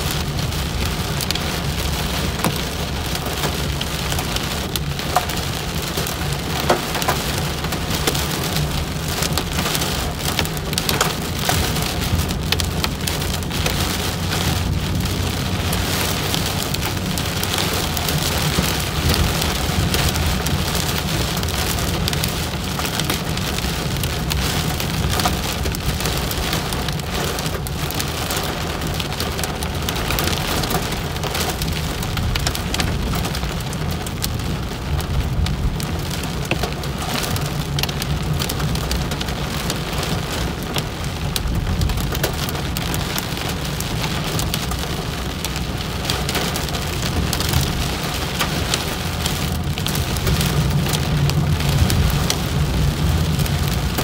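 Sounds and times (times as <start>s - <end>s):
heavy rain on car roof: 0.0s - 54.0s
low rumble of moving car: 0.0s - 54.0s.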